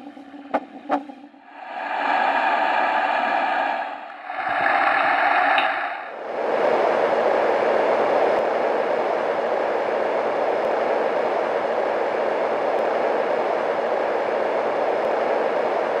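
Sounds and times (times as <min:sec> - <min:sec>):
white noise machine whoosh: 0:00.0 - 0:14.8.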